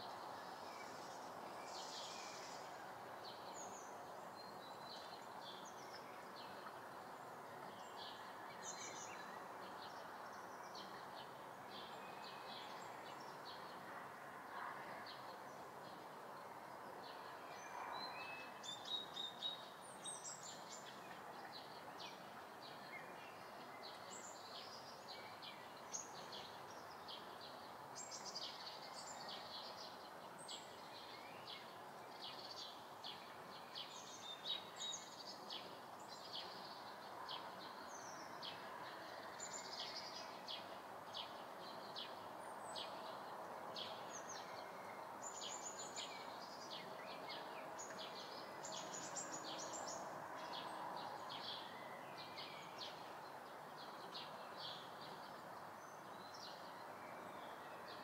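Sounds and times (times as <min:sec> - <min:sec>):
low background hiss: 0:00.0 - 0:58.0
small birds chirping outside: 0:00.0 - 0:58.0.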